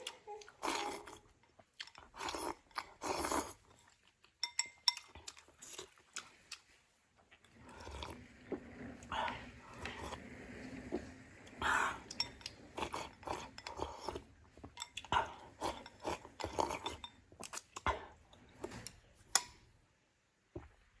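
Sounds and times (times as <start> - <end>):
chewing: 0.0 - 8.2, 9.0 - 18.4.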